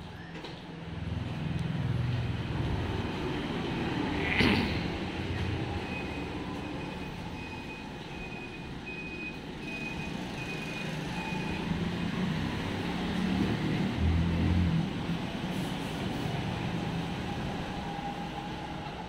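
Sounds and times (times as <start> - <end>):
low rumble of vehicle: 0.0 - 19.0.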